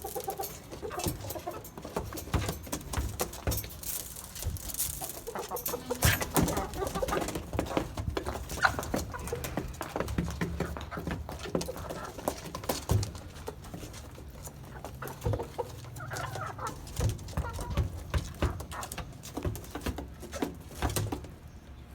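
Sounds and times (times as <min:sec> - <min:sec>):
hens clucking: 0:00.0 - 0:21.5.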